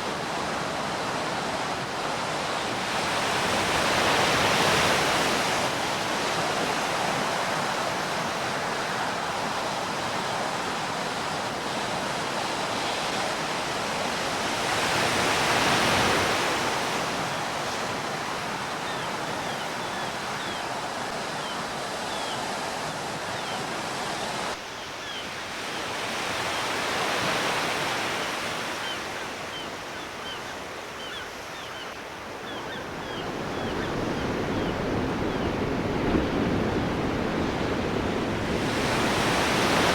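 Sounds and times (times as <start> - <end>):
sea waves breaking on shore: 0.0 - 31.0, 32.0 - 39.9.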